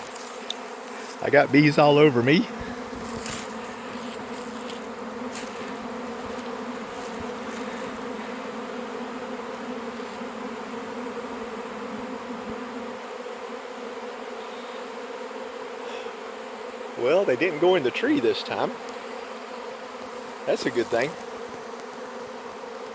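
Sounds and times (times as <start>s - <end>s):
bees buzzing: 0.0s - 22.9s.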